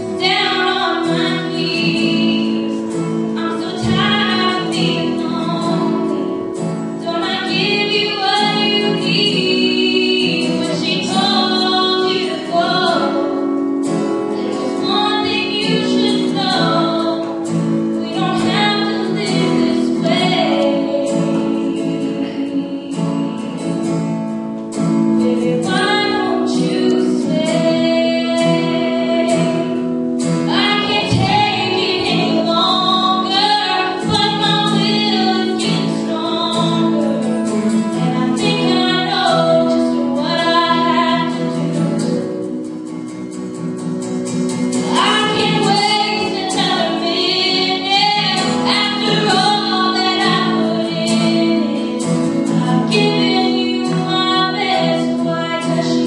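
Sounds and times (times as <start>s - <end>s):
woman singing into microphone: 0.0s - 24.2s, 24.8s - 43.5s, 44.6s - 56.0s
instrumental accompaniment: 0.0s - 56.0s.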